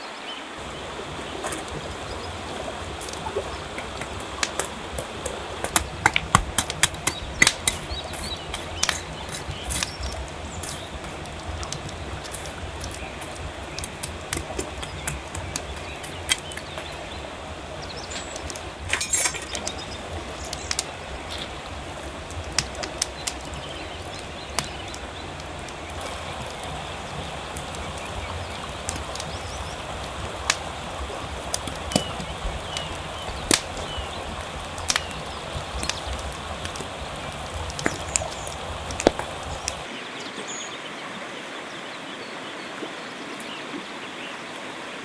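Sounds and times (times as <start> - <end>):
river rushing: 0.0 - 45.0
embers crackling and popping: 0.6 - 39.9.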